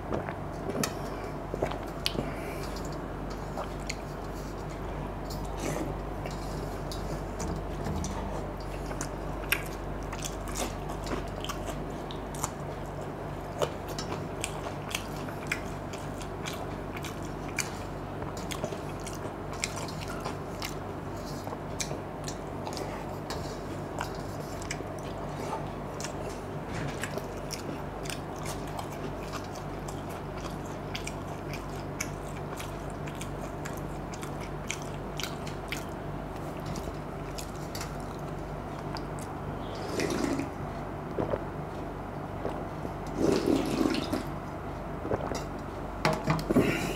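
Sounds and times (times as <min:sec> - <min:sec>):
person chewing food: 0:00.0 - 0:45.8.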